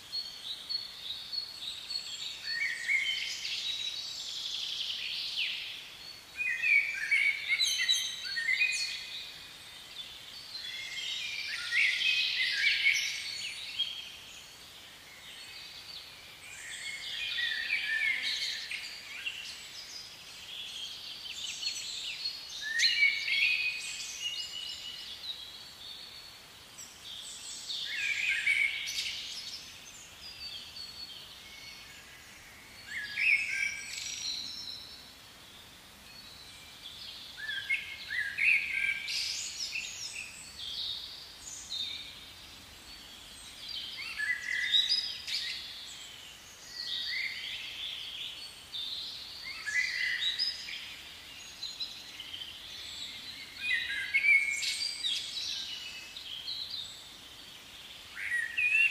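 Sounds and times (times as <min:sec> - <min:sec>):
faint background hiss: 0:00.0 - 0:58.9
songbirds chirping: 0:00.0 - 0:58.9.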